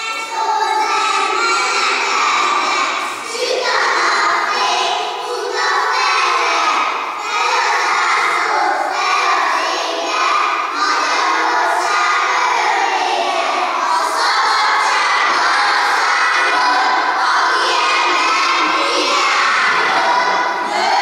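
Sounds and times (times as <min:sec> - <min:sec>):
children's voices in unison: 0:00.0 - 0:21.0.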